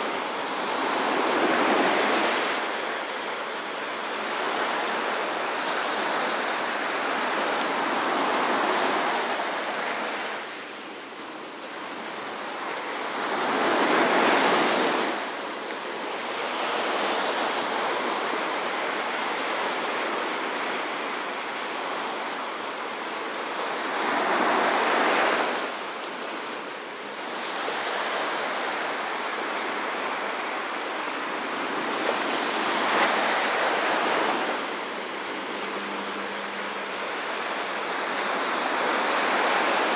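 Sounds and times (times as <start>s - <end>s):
small waves breaking on sand: 0.0s - 39.9s.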